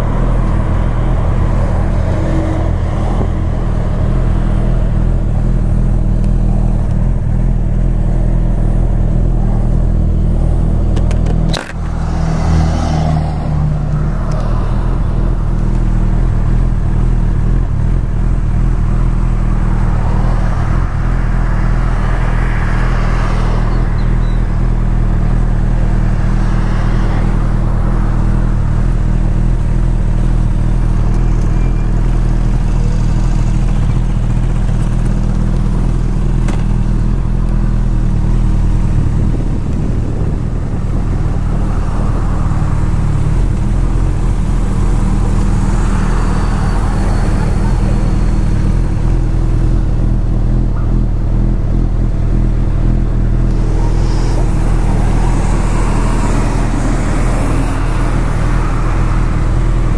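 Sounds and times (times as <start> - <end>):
motorcycle engine running: 0.0 - 59.9
passing vehicles: 0.0 - 59.9.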